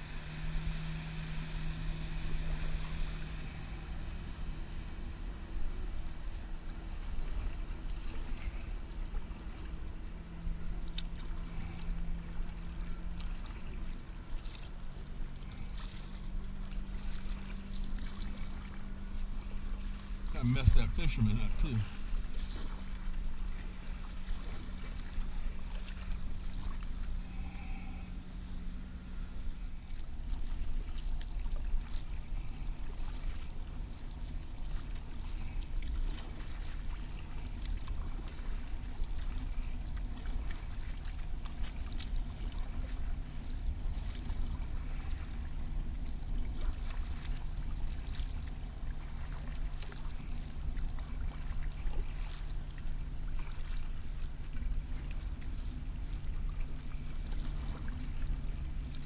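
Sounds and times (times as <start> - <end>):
low rumble and hum: 0.0 - 59.0
paddle splashing water: 0.0 - 59.0.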